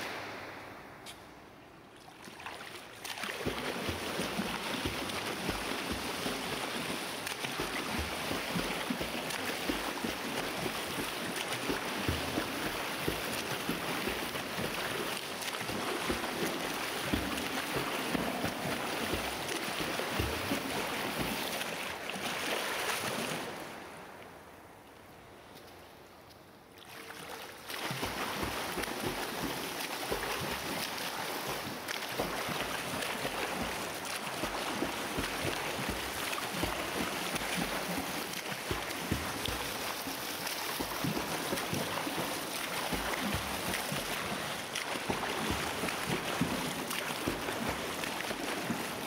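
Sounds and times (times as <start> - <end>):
water sloshing and splashing: 1.9 - 24.0, 26.8 - 49.0.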